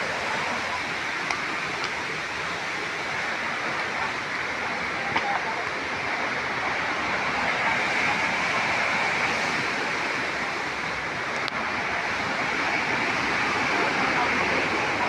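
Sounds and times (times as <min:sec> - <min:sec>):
waterfall and stream rushing: 0:00.0 - 0:15.0.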